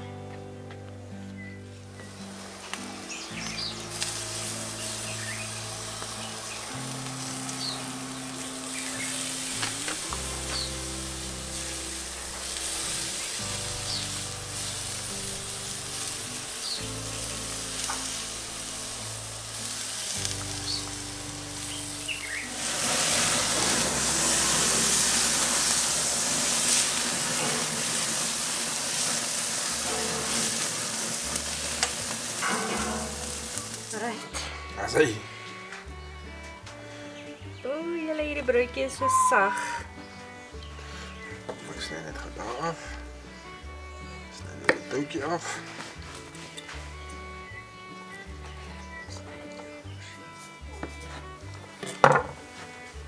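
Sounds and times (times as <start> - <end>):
soft background music: 0.0 - 53.0
birds chirping: 1.0 - 46.0, 46.9 - 52.0
sausage sizzling on grill: 1.1 - 53.0.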